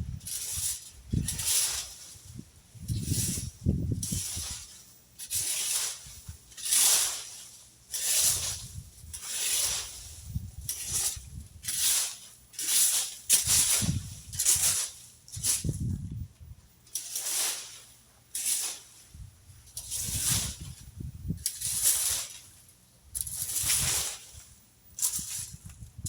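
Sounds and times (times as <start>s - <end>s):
rake scraping through dry leaves: 0.0s - 16.2s, 16.8s - 26.0s.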